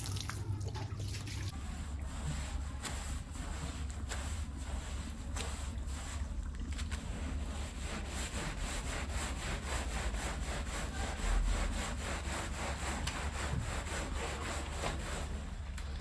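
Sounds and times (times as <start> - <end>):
stiff brush scrubbing rug: 0.0 - 6.4, 7.0 - 15.6.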